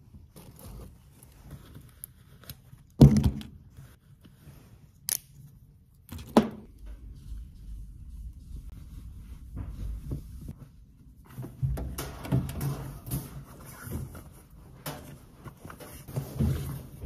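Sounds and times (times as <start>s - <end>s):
objects being handled: 0.0s - 17.0s.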